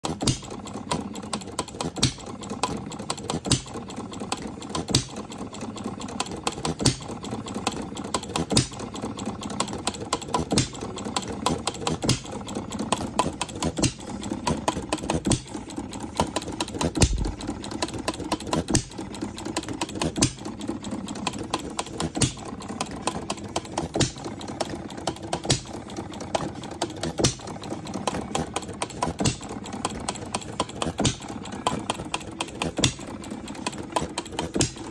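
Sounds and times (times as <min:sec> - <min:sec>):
quick mechanical clicking: 0:00.0 - 0:34.9.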